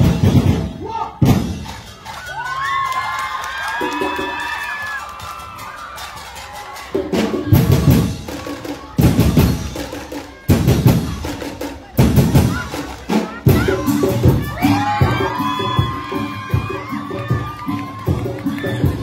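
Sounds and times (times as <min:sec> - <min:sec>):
drums: 0:00.0 - 0:19.0.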